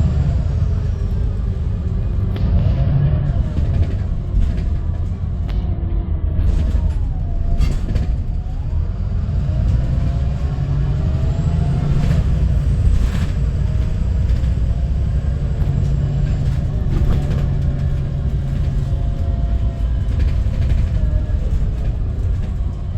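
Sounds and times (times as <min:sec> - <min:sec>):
bus engine and road rumble: 0:00.0 - 0:22.9.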